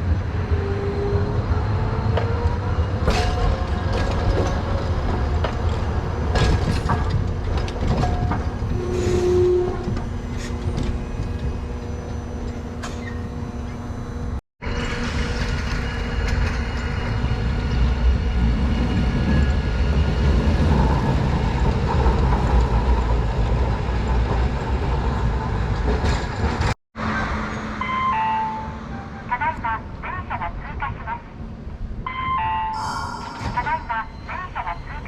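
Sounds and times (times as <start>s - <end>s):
streetcar rumbling on rails: 0.0s - 35.0s.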